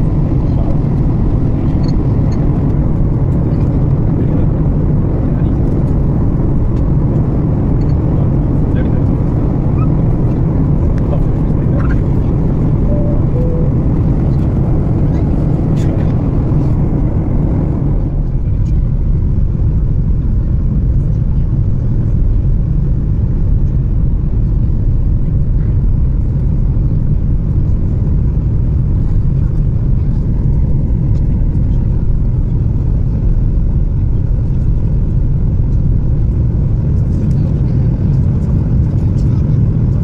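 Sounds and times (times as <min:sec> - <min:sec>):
airplane cabin roar: 0:00.0 - 0:40.0.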